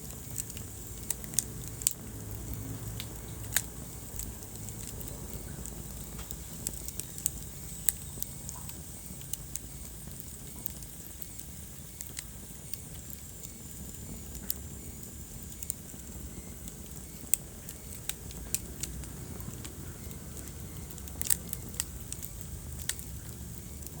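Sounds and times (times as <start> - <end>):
wood fire crackling in fireplace: 0.0 - 24.0.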